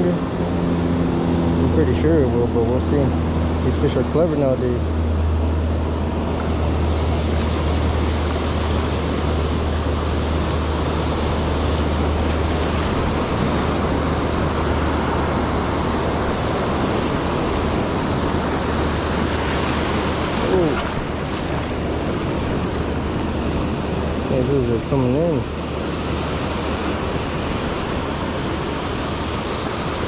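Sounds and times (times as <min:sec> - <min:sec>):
ocean surf on beach: 0:00.0 - 0:30.0
wind rumble on microphone: 0:00.0 - 0:30.0.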